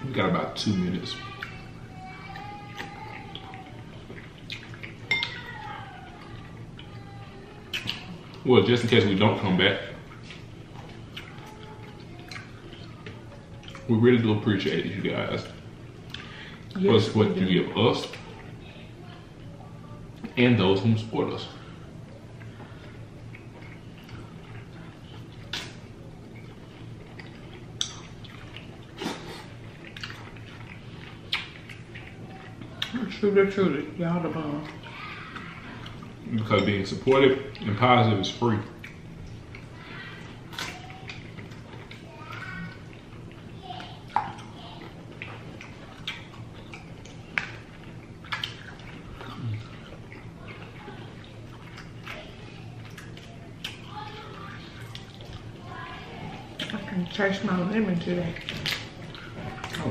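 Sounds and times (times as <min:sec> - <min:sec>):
low steady hum: 0:00.0 - 0:59.9
wet chewing smacks and clicks: 0:01.3 - 0:09.0, 0:10.0 - 0:13.9, 0:15.4 - 0:16.8, 0:22.0 - 0:33.3, 0:34.5 - 0:57.2, 0:57.8 - 0:59.9.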